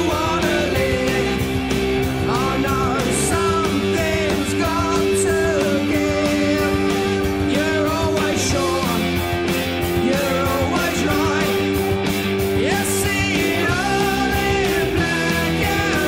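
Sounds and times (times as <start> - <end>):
rock music with sung vocal: 0.0 - 16.0
steady drum beat: 0.0 - 16.0.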